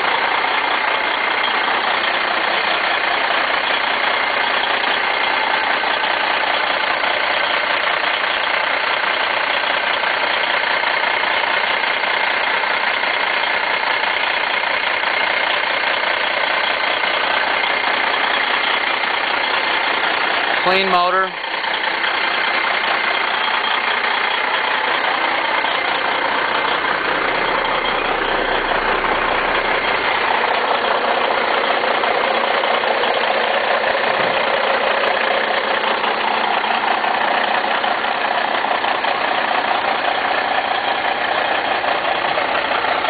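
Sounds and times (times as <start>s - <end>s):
truck diesel engine idling: 0.0s - 43.0s.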